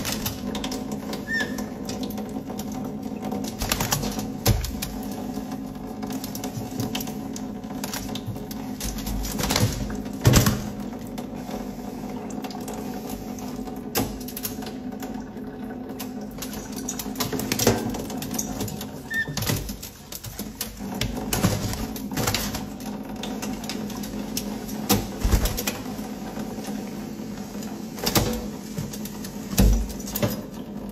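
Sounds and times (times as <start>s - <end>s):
birds flapping in water: 0.0s - 30.9s
tap water running into sink: 0.0s - 30.9s.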